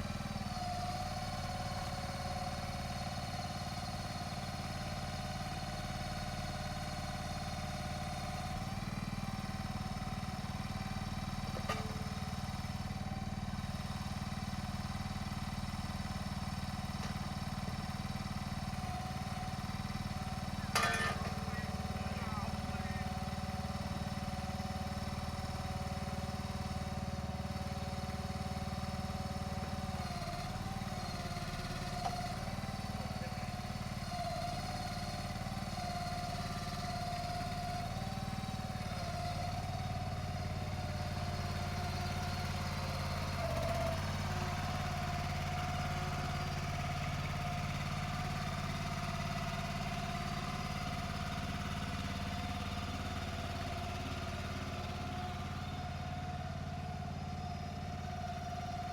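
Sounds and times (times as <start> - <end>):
motor engine running: 0.0 - 58.9.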